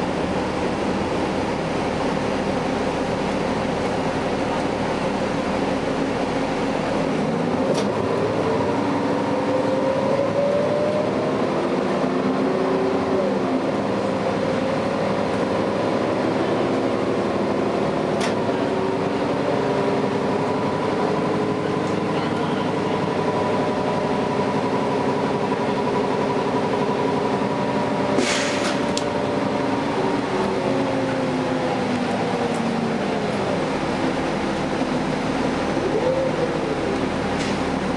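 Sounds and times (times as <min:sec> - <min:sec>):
bus diesel engine and transmission whining: 0:00.0 - 0:37.9.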